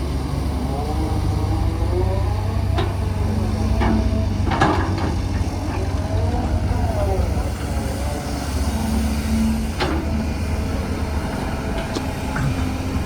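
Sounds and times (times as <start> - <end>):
heavy machinery diesel engines: 0.0 - 13.0.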